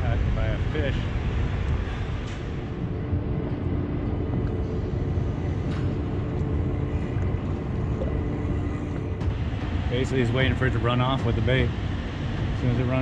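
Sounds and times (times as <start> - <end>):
constant hum: 0.0 - 13.0
low mechanical rumble: 0.0 - 13.0.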